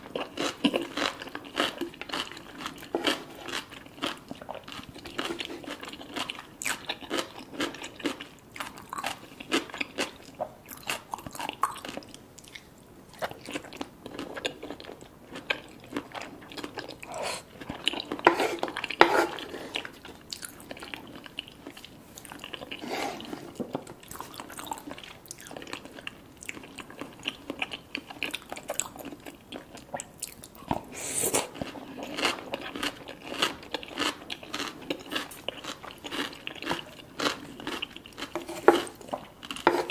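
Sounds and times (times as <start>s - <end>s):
crunchy chewing of food: 0.0s - 39.9s.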